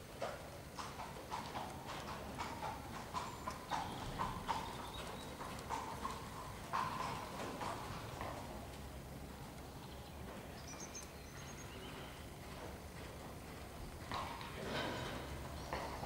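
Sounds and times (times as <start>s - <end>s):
horse hoofbeats on arena footing: 0.0s - 16.0s.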